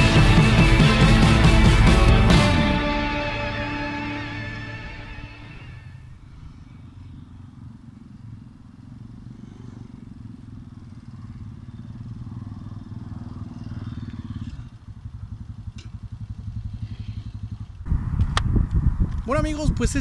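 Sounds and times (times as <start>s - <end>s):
motorcycle engine: 0.0s - 19.2s.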